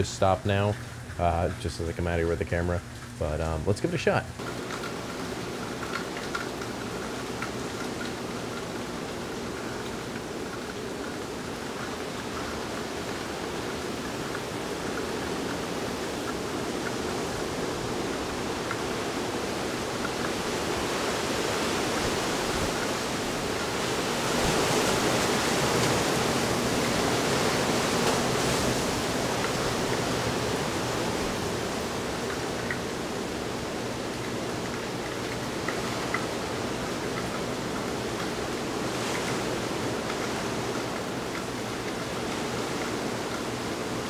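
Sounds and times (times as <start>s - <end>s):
hurricane wind rushing: 3.4s - 44.0s.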